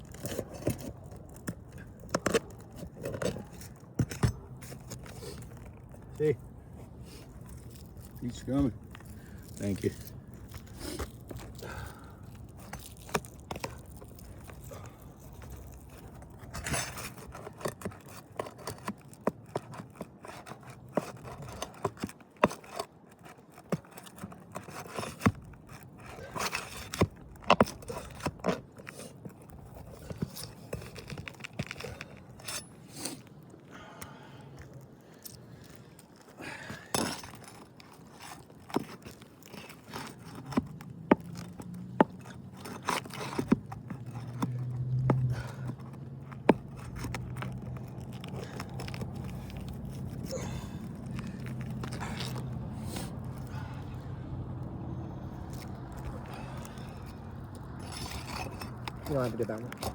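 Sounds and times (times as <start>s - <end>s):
flat bar scraping under shingles: 0.0s - 54.2s, 54.9s - 59.9s.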